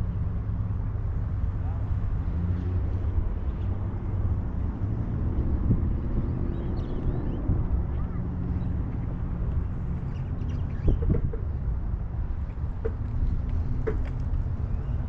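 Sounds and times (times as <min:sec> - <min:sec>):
road noise: 0:00.0 - 0:15.0
vehicle engine droning: 0:00.0 - 0:15.0
wind on microphone: 0:00.0 - 0:15.0.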